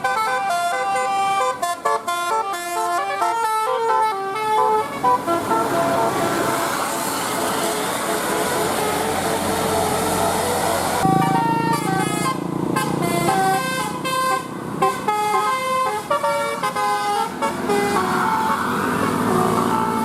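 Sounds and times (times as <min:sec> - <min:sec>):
bus engine hum: 0:00.0 - 0:20.0
musical air horn tune: 0:00.0 - 0:20.0.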